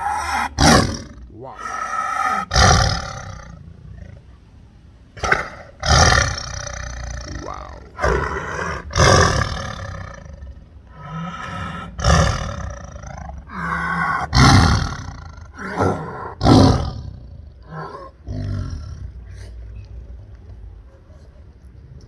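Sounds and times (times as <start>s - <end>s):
tiger strained in-breaths: 0.0s - 4.2s, 5.2s - 20.1s
tiger roaring: 0.0s - 4.4s, 5.1s - 19.6s.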